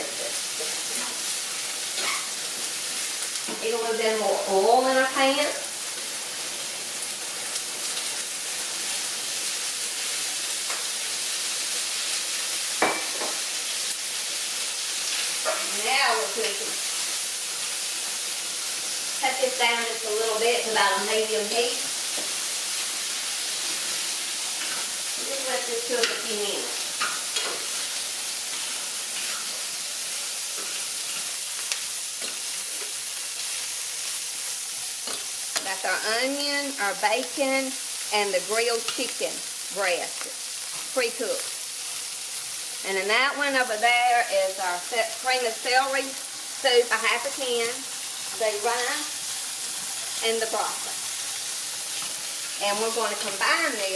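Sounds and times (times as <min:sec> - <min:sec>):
food sizzling in a frying pan: 0:00.0 - 0:53.9.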